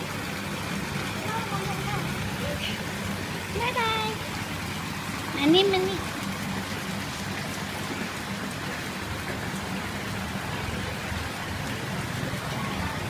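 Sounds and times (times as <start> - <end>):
fish splashing water: 0.0 - 13.0.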